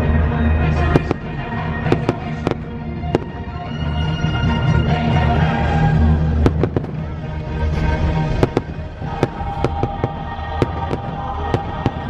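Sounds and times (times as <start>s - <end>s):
loud show music: 0.0s - 12.0s
fireworks bangs: 0.7s - 5.4s, 6.4s - 12.0s.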